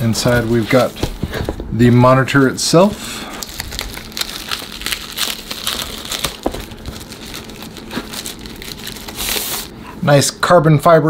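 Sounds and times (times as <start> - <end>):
plastic sleeve crinkling: 0.0 - 9.7.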